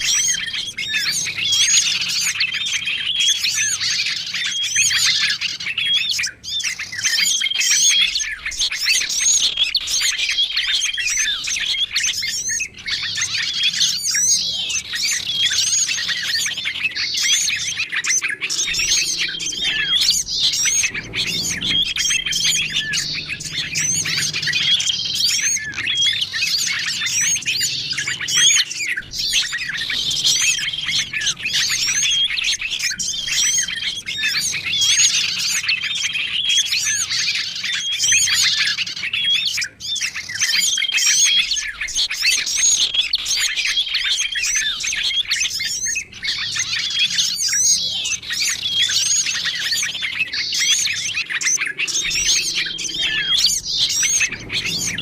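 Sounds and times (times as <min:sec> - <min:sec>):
songbirds chirping and warbling: 0:00.0 - 0:55.0.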